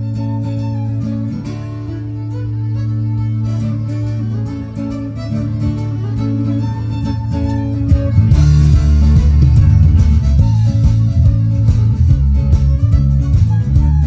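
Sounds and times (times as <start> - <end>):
acoustic guitar: 0.0 - 14.0
bass line: 0.0 - 14.0
fiddle: 0.0 - 14.0
folk-rock band playing: 0.0 - 14.0.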